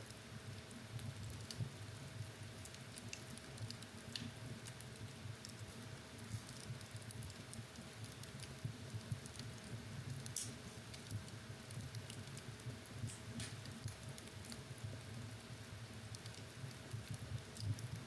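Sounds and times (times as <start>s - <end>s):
faint steady hum: 0.0s - 18.0s
low rumble of flames: 0.0s - 18.0s
wood fire crackling and popping: 0.0s - 18.0s.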